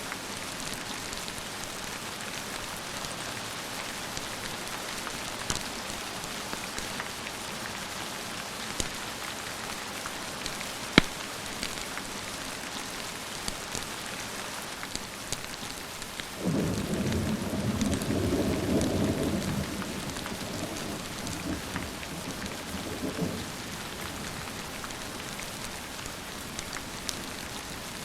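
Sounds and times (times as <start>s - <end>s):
steady rain hissing: 0.0s - 28.0s.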